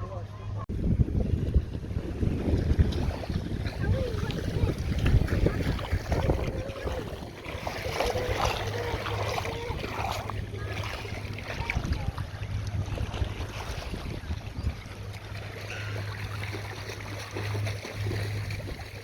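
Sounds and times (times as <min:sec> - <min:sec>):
boat motor hum: 0:00.0 - 0:19.0
water noise: 0:00.0 - 0:19.0
wind buffeting microphone: 0:00.7 - 0:19.0.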